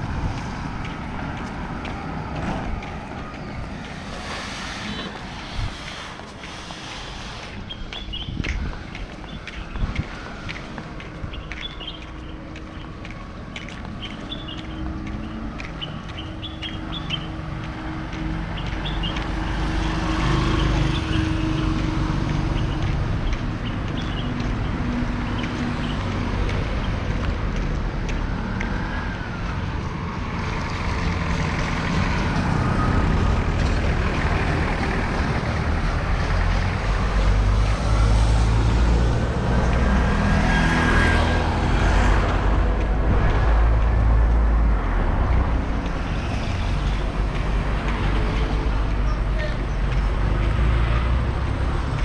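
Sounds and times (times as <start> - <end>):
vehicle engines passing: 0.0 - 52.0.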